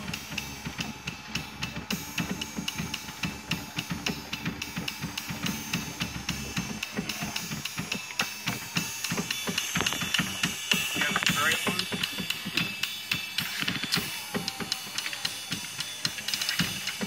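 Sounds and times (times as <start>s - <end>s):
hi-hat and cymbal hits: 0.0s - 17.0s
kick drum: 0.0s - 17.0s
snare drum: 0.0s - 17.0s.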